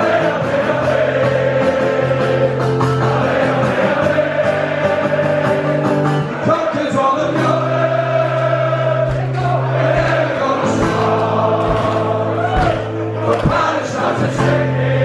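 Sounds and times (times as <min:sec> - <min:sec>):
acoustic guitar: 0:00.0 - 0:15.0
crowd singing a chant: 0:00.0 - 0:15.0.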